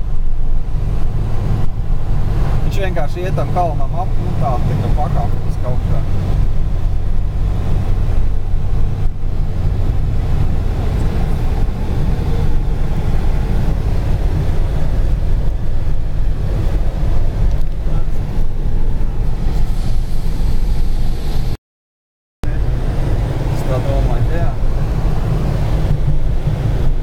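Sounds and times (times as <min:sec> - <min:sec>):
car engine and tyres rumbling: 0:00.0 - 0:21.6, 0:22.4 - 0:27.0.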